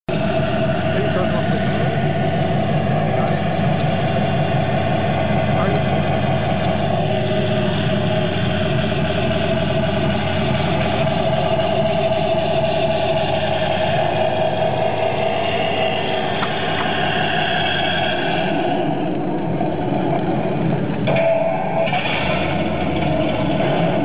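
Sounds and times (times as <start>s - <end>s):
simulated tank engine idling: 0.1s - 24.0s.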